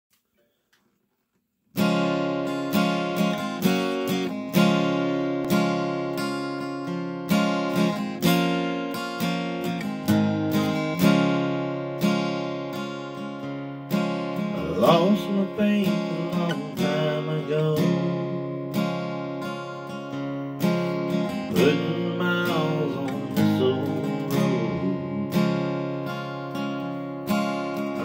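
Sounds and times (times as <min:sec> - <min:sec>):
acoustic guitar strumming chords: 0:01.8 - 0:28.0.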